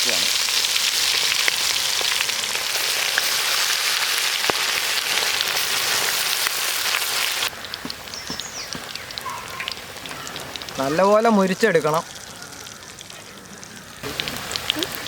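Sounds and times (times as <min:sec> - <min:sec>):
chicken deep-frying in hot oil: 0:00.0 - 0:15.0
oil popping: 0:00.1 - 0:15.0.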